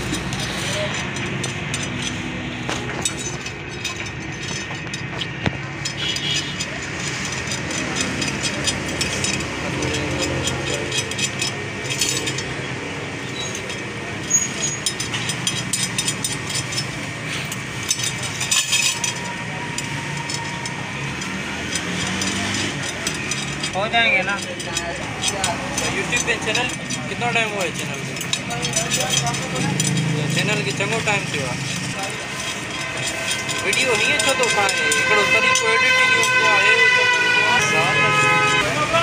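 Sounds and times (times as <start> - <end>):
metal spokes clinking on wheel rim: 0.0 - 39.0
steady background noise: 0.0 - 39.0.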